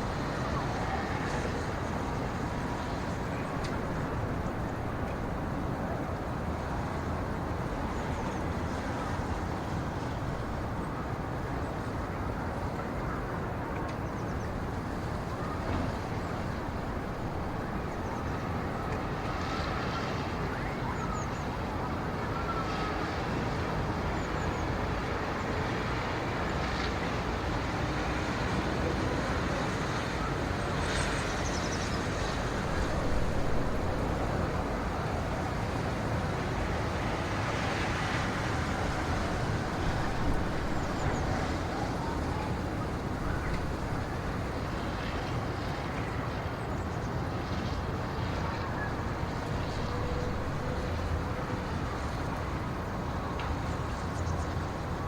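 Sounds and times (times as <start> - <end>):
low rumbling background noise: 0.0 - 55.0.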